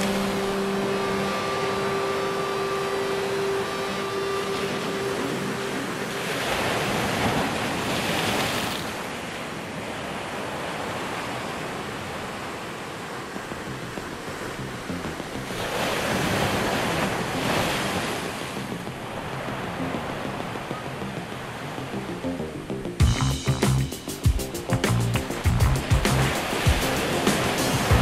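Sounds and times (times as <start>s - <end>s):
waves washing against seawall: 0.0s - 21.9s, 25.4s - 28.0s.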